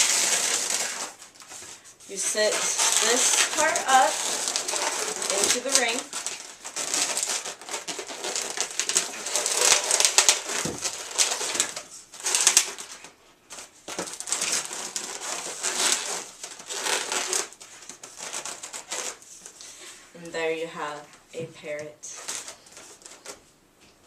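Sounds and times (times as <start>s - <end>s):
balloons squeaking and rubbing: 0.0s - 19.9s, 21.7s - 23.4s.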